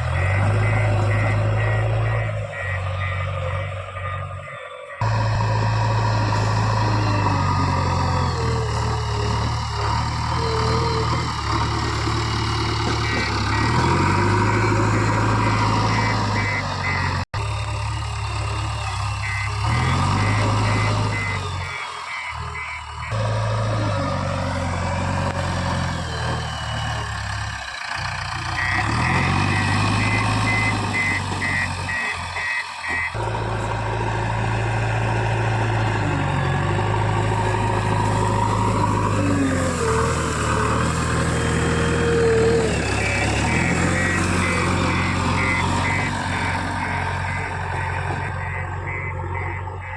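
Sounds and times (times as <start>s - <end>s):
reversing alarm beeping: 0.0s - 24.0s, 24.6s - 33.2s, 37.2s - 49.9s
diesel engine revving: 0.0s - 49.9s.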